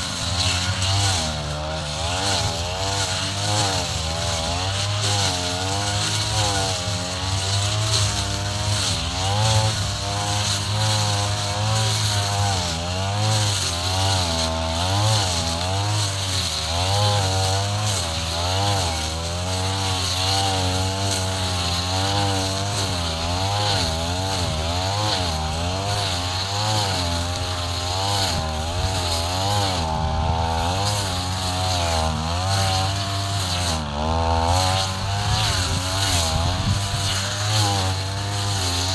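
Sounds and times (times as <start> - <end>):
brush cutter engine cutting grass: 0.0 - 38.9.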